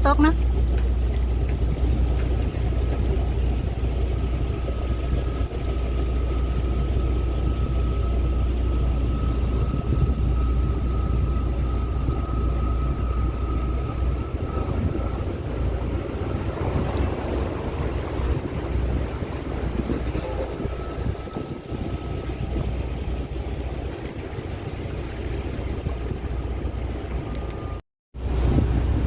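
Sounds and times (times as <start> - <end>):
boat engines rumbling: 0.0 - 29.0
high whine: 0.0 - 29.0.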